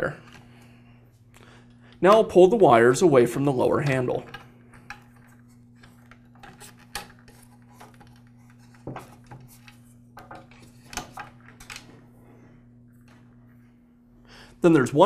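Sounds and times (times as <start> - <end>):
wires clicking and rustling: 0.0 - 12.1
faint steady hum: 0.0 - 15.0.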